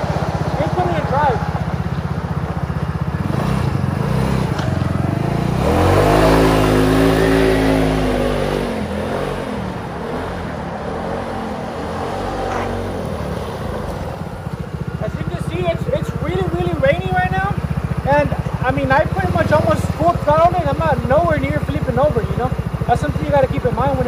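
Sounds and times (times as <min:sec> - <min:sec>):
go-kart engine revving: 0:00.0 - 0:24.0.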